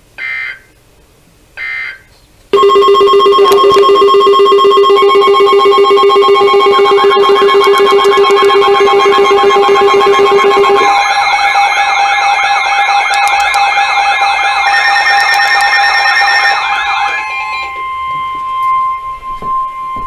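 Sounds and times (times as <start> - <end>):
steady alert tone: 2.6 - 20.0
warbling tones: 2.6 - 20.0.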